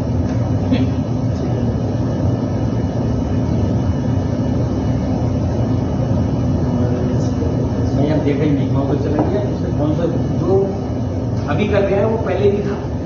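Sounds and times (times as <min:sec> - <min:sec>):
compressor running: 0:00.0 - 0:13.0.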